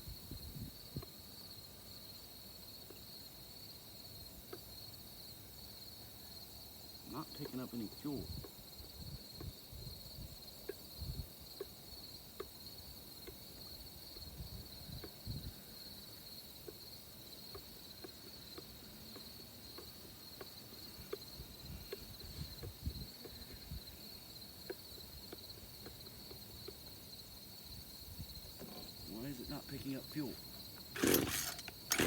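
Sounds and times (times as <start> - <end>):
crickets trilling: 0.0 - 32.0.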